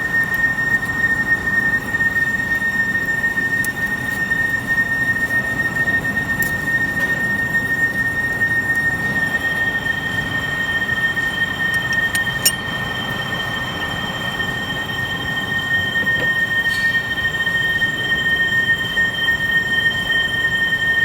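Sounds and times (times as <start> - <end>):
metal lathe whining: 0.0 - 21.0.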